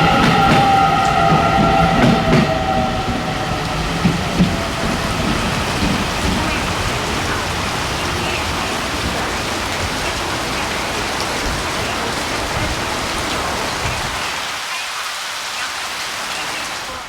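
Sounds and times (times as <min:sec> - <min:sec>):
train wheels rushing on rails: 0:00.0 - 0:14.8.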